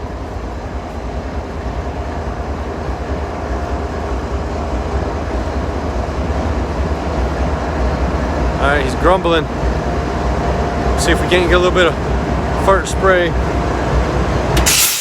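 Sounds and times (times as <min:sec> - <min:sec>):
diesel locomotive engines running: 0:00.0 - 0:15.0.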